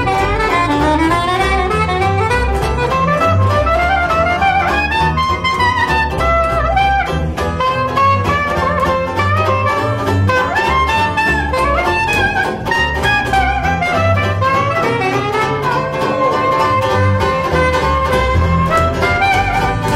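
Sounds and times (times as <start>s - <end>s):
plucked double bass: 0.0s - 19.9s
soprano saxophone melody: 0.0s - 19.9s
strummed banjo: 0.0s - 19.9s.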